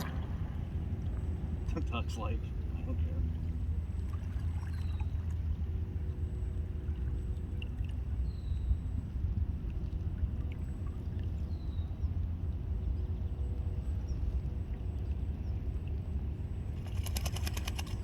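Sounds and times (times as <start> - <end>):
faint hum: 0.0 - 18.0
wind rumble on microphone: 0.0 - 18.0.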